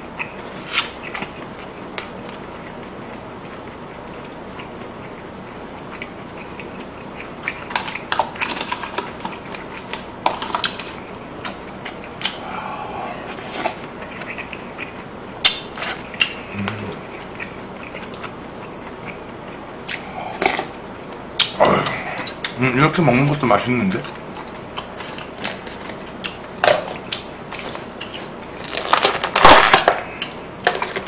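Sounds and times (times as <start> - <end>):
chewing and slurping: 0.0 - 22.6, 23.8 - 31.0.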